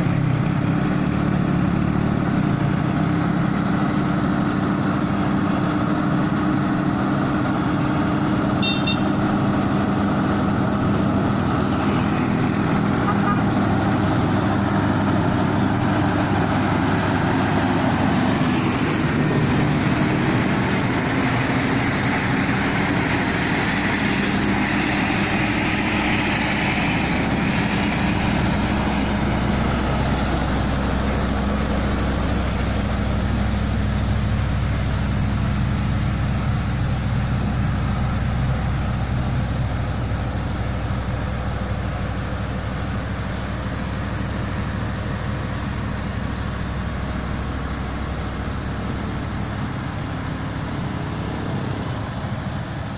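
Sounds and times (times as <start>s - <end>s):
diesel truck engine droning: 0.0s - 52.9s.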